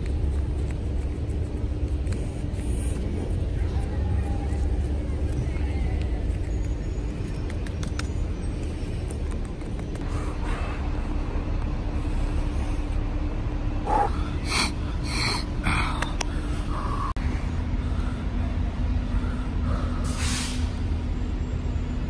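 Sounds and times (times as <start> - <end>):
city background rumble: 0.0 - 22.0
faint steady hum: 0.0 - 22.0.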